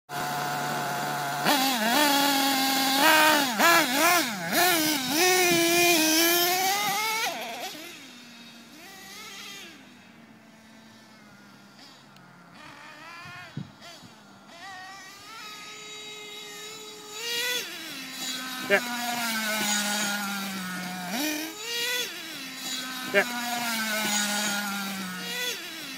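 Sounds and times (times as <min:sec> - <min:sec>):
rc truck engine revving: 0:00.1 - 0:25.9.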